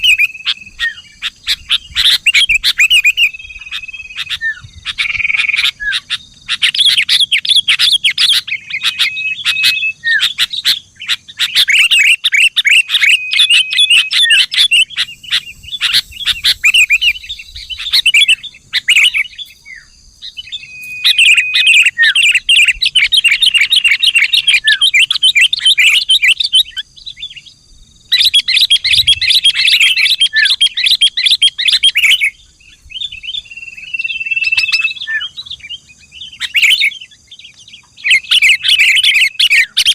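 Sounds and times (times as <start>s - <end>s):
bird whistled notes: 0.0s - 27.5s, 28.1s - 37.1s, 38.0s - 39.9s
bird chattering song: 0.0s - 39.9s.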